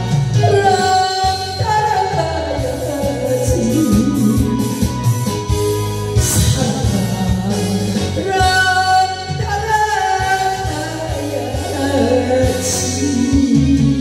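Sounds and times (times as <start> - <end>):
backing track with steady beat: 0.0 - 14.0
woman singing into a microphone: 0.0 - 14.0.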